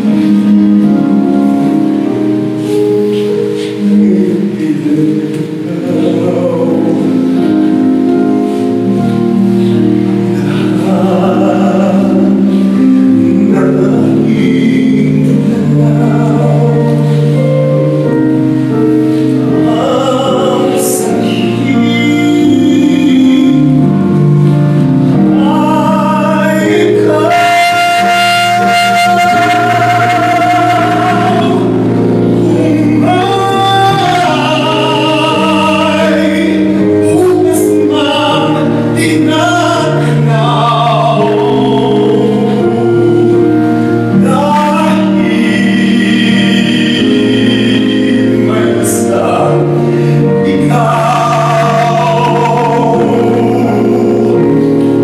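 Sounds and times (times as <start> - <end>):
man singing into microphone: 0.0 - 55.0
musical accompaniment: 0.0 - 55.0.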